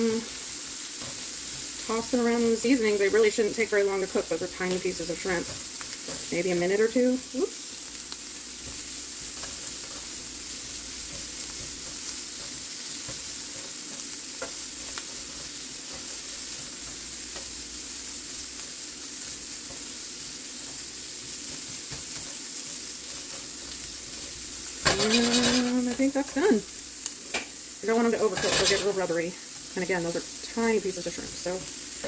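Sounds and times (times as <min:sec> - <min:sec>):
shrimp sizzling in a frying pan: 0:00.0 - 0:32.0.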